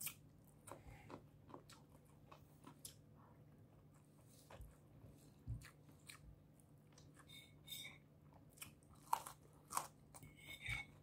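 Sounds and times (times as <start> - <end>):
person chewing: 0.0 - 3.1, 3.9 - 7.6, 8.3 - 11.0.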